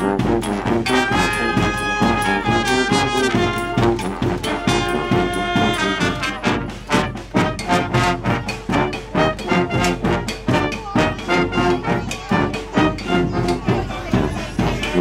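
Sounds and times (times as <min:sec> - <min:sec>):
drum beat: 0:00.0 - 0:15.0
marching brass band playing: 0:00.0 - 0:15.0.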